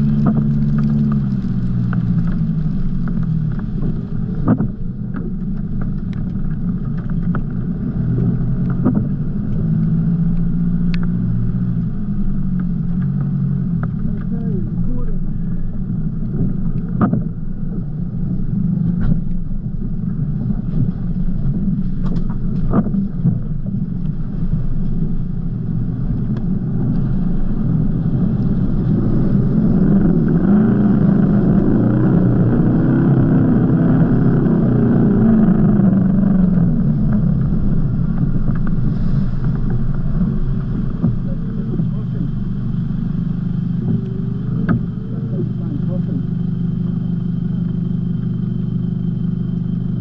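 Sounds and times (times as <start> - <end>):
engine running: 0.0 - 50.0
water rushing over vehicle: 0.0 - 50.0.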